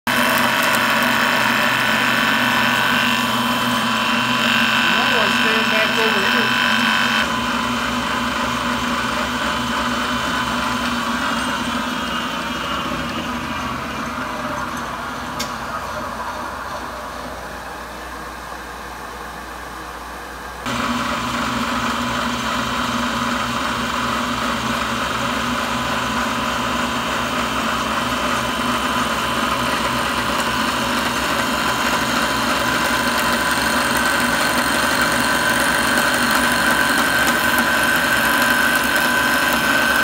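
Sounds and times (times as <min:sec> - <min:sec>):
milling machine cutting wood: 0:00.1 - 0:17.0, 0:20.7 - 0:40.0.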